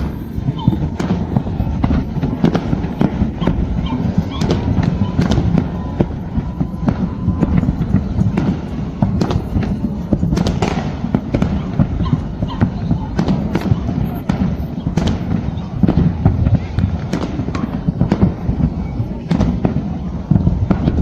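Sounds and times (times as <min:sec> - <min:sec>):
fireworks bangs and crackling: 0:00.0 - 0:21.0
rumble of distant explosions: 0:00.0 - 0:21.0.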